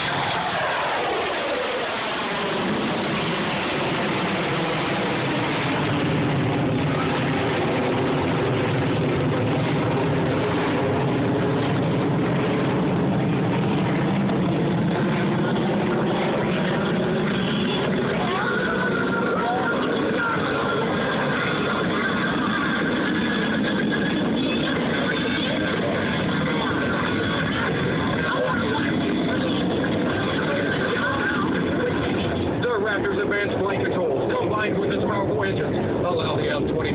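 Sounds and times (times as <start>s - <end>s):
loud jet noise: 0.0s - 36.9s.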